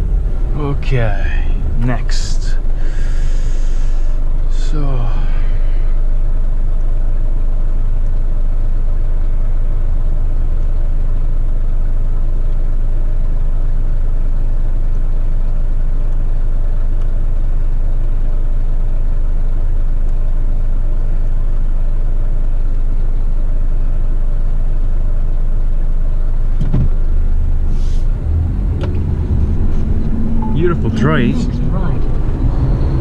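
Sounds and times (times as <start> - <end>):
truck diesel engine droning: 0.0 - 33.0.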